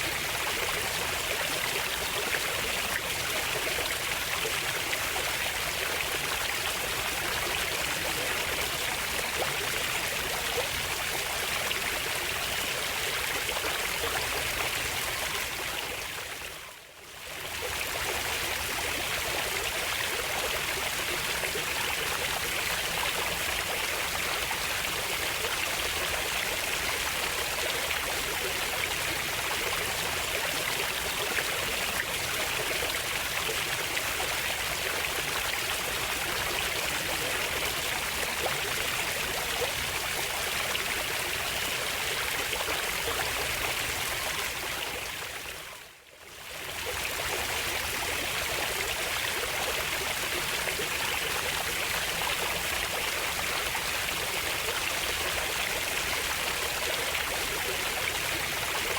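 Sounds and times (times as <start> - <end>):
stream water rushing and trickling: 0.0 - 58.9.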